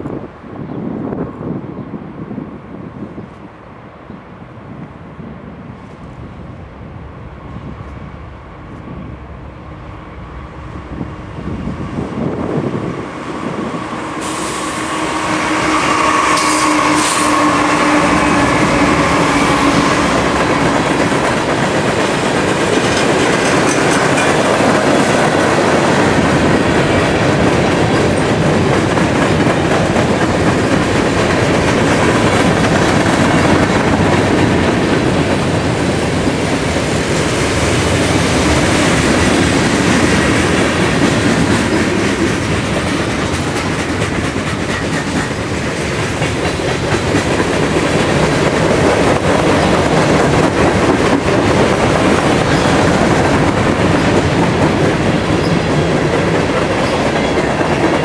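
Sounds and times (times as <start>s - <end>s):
diesel locomotive engine drone: 0.0s - 58.0s
train wheels on rails: 4.6s - 58.0s.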